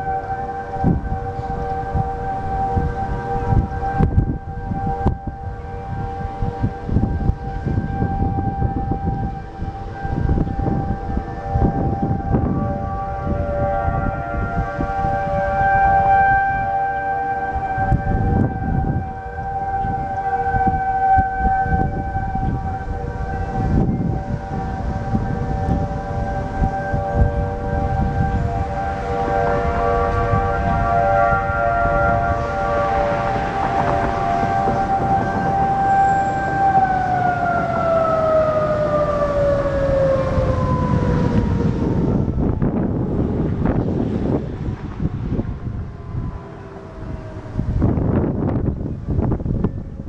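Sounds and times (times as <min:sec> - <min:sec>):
warning sirens: 0:00.0 - 0:50.0.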